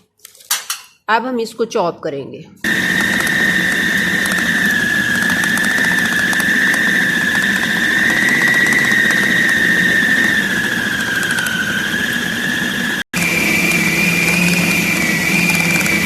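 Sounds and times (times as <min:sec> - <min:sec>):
food chopper motor whine: 0:02.6 - 0:16.0.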